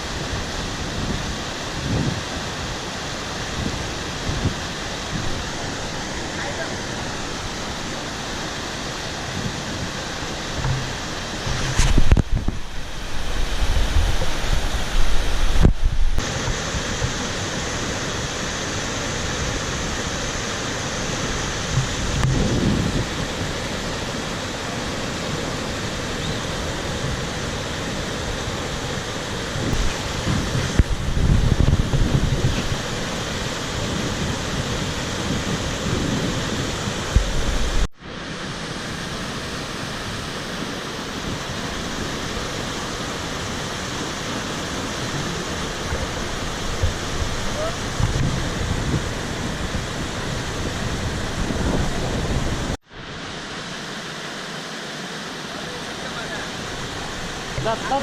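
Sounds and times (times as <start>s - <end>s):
wind on microphone: 0.0s - 53.2s
stream rushing: 0.0s - 58.0s.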